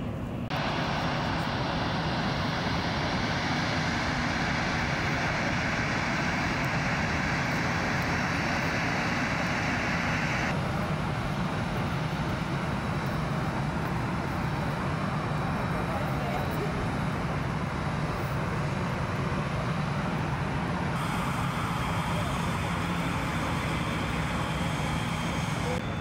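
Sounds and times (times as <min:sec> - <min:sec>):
jet engines whining at taxi: 0:00.0 - 0:26.0.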